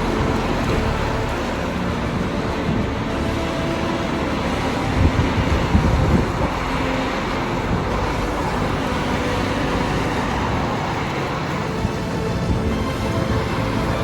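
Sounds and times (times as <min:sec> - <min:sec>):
low vehicle rumble: 0:00.0 - 0:14.0
traffic passing: 0:00.0 - 0:14.0.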